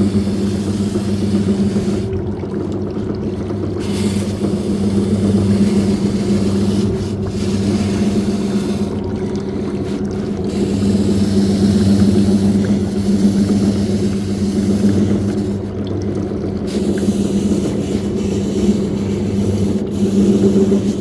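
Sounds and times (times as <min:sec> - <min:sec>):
motor hum: 0:00.0 - 0:21.0
water churning and sloshing: 0:00.0 - 0:21.0.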